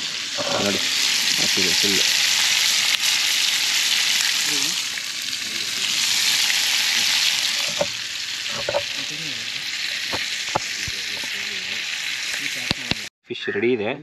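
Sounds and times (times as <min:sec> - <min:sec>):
fish frying in hot oil: 0:00.0 - 0:13.1.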